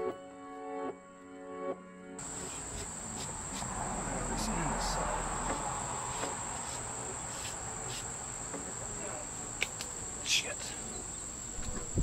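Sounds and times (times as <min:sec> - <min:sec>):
crickets chirring: 0:02.2 - 0:12.0.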